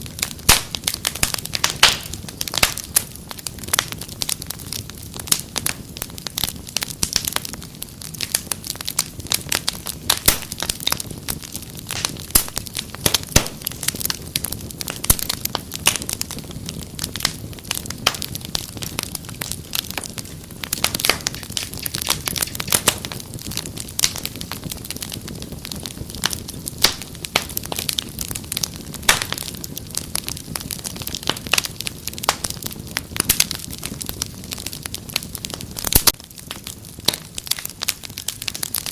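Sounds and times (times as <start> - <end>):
fire hissing: 0.0 - 38.9
wood fire crackling: 0.0 - 38.9.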